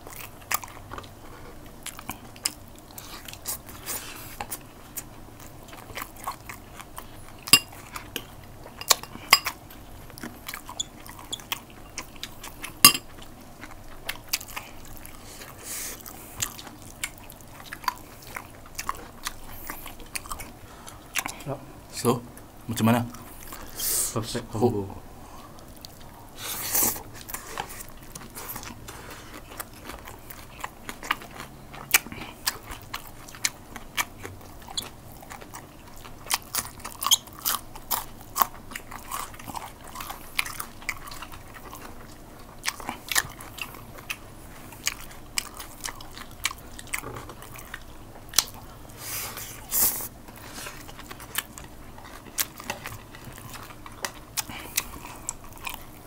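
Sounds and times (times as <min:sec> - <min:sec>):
people chewing and crunching: 0:00.0 - 0:21.8, 0:22.7 - 0:56.0.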